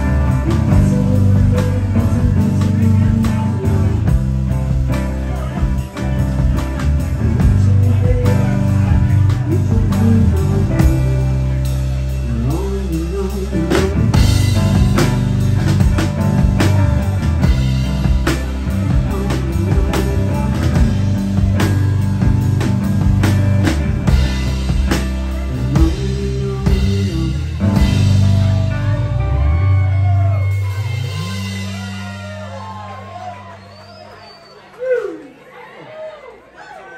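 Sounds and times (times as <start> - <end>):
electric guitar: 0.0 - 33.6
pounding bass guitar: 0.0 - 34.1.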